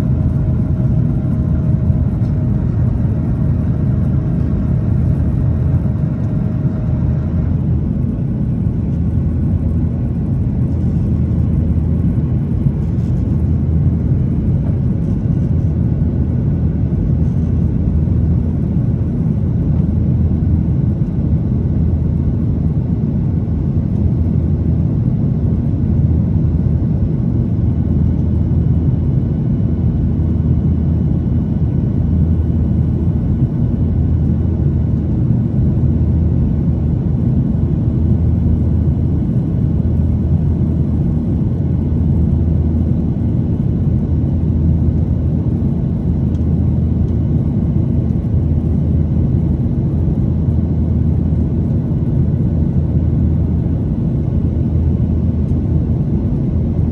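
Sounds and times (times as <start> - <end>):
jet engines rumbling in cabin: 0.0 - 56.9.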